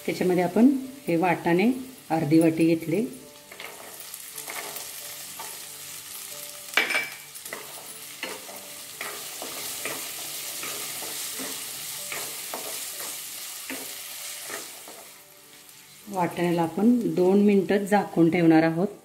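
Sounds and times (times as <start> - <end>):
vegetables sizzling in hot oil: 0.0 - 18.6.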